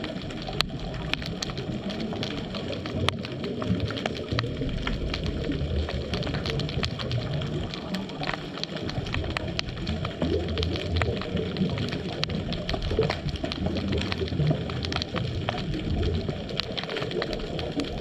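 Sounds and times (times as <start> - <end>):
sharp clicks and crackles: 0.0 - 18.0
underwater bubbling rumble: 0.0 - 18.0.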